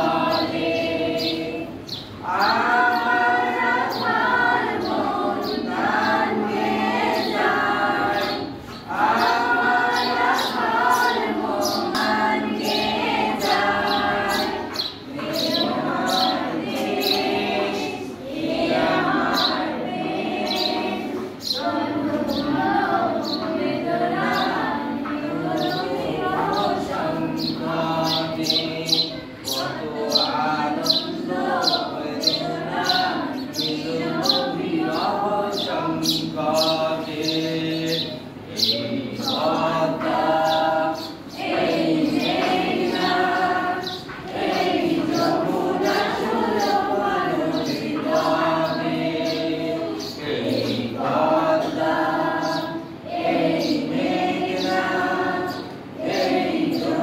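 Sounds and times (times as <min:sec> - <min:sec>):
group singing unaccompanied: 0:00.0 - 0:57.0.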